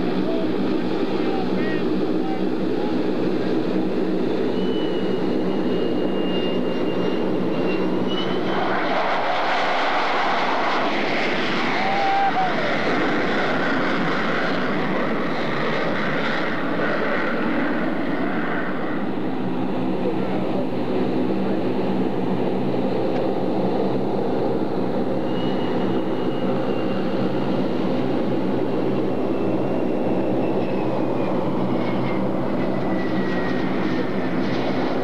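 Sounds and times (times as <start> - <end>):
high jet whine: 0.0 - 35.0
jet engines roaring: 0.0 - 35.0.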